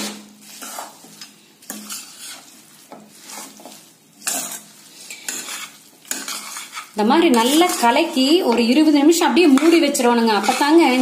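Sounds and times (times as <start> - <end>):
wet rustle of stirred sweets: 0.0 - 11.0.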